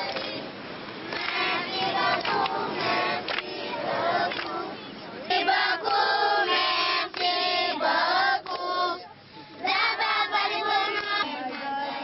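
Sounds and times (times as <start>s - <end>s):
children singing together: 1.1s - 9.0s, 9.6s - 12.0s.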